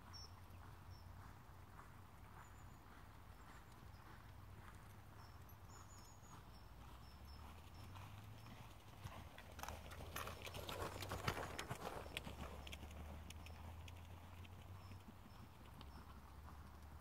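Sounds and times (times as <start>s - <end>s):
horse hoofbeats: 0.6s - 17.0s.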